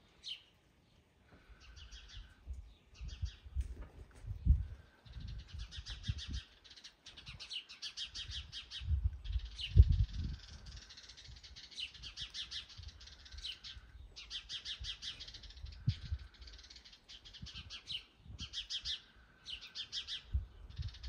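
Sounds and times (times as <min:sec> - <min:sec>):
songbirds singing fast trills: 0:00.1 - 0:21.0.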